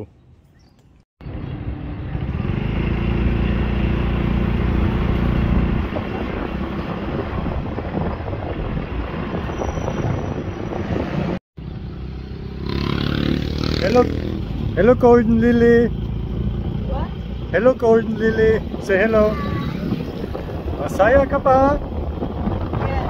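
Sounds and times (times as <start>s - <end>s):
wind rushing over microphone: 1.3s - 23.0s.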